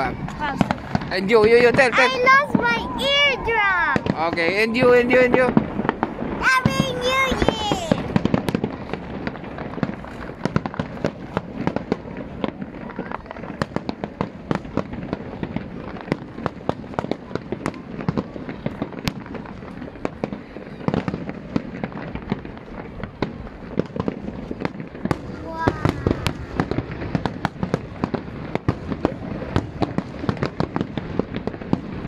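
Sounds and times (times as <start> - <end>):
continuous background din: 0.0 - 32.0.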